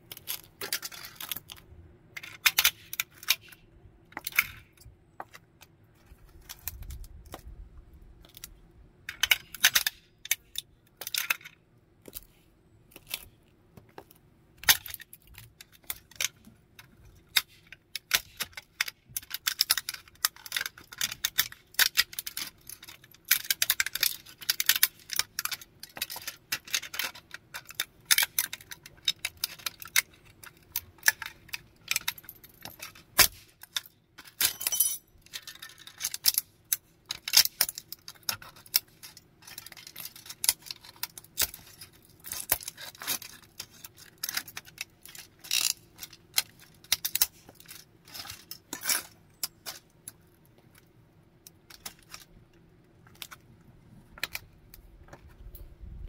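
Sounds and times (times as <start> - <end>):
plastic toy cracking underfoot: 0.0 - 34.5, 35.2 - 56.0.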